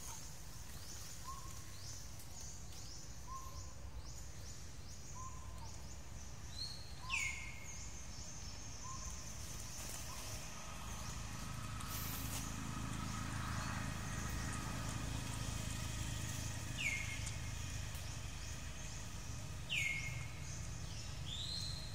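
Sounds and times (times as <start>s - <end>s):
low forest rumble: 0.0s - 21.9s.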